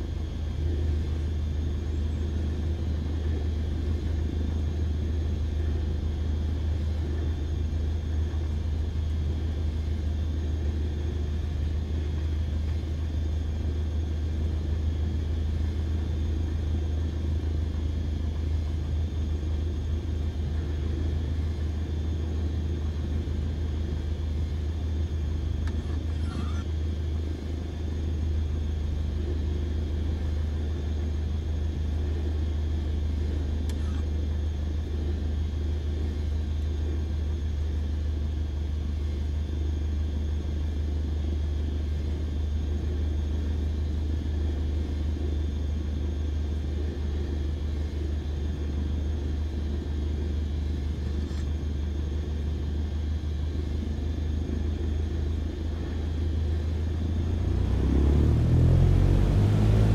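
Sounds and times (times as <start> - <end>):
car driving low drone: 0.0 - 59.9.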